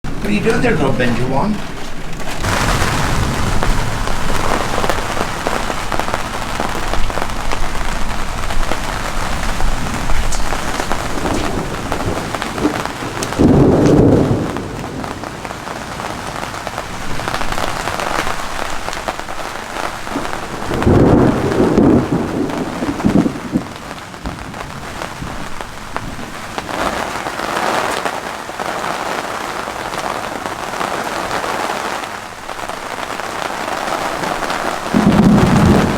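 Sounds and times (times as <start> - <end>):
thunder rolling: 0.0 - 27.3, 32.5 - 35.9
heavy rain: 0.0 - 35.9.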